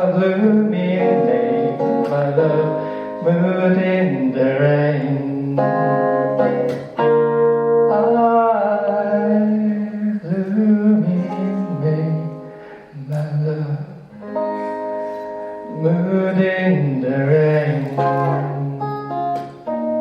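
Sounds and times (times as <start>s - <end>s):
guitar chords: 0.0s - 20.0s
person singing long notes: 0.0s - 20.0s.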